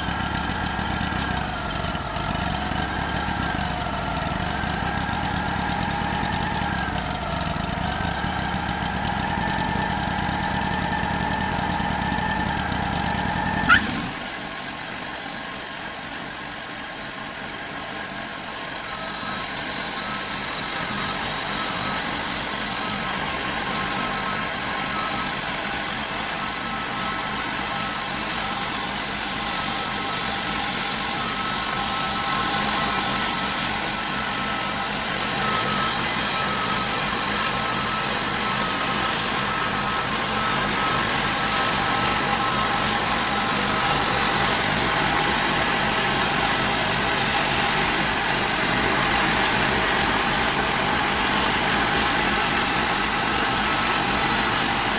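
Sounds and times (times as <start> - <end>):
saw high whine: 0.0 - 54.9
sawmill engine drone: 0.0 - 54.9.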